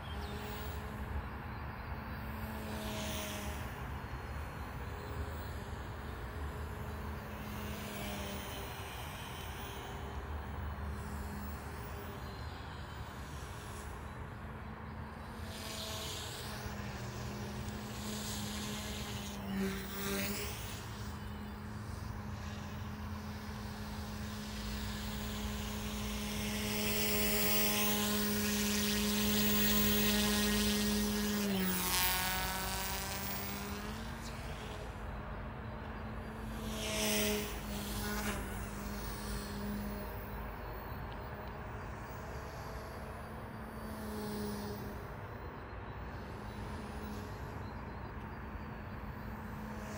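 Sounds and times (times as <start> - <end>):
rc helicopter buzzing hum: 0.0 - 49.9.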